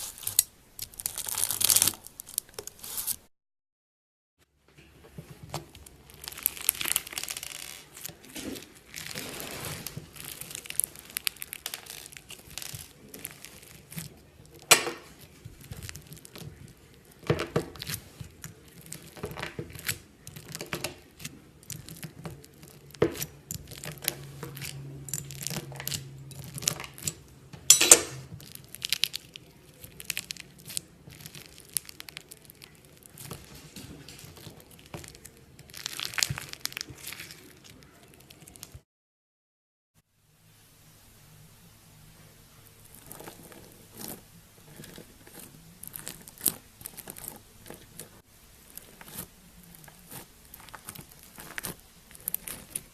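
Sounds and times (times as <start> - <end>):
slime squeezed crackling and popping: 0.0 - 3.2, 5.6 - 27.2, 28.4 - 38.8, 42.8 - 52.9.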